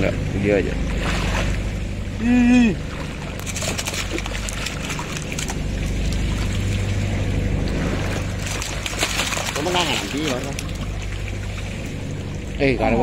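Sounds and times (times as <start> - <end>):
low motor hum: 0.0 - 13.0
water splashing and sloshing: 0.0 - 13.0.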